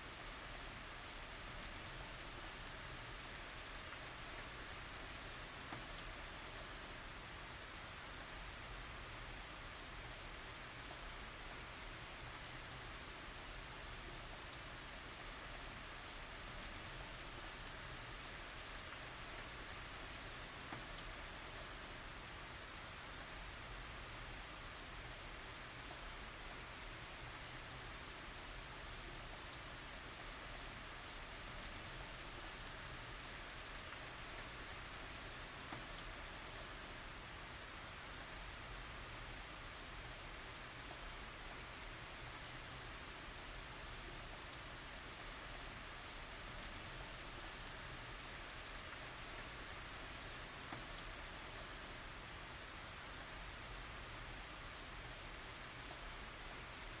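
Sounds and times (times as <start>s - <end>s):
rain falling: 0.0s - 57.0s
raindrops pattering on surfaces: 0.0s - 57.0s.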